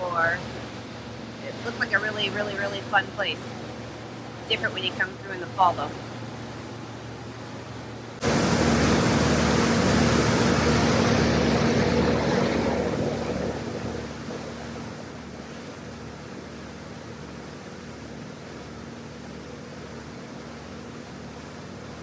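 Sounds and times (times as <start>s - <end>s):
boat engine hum: 0.0s - 22.0s
rushing wind and water: 0.0s - 22.0s.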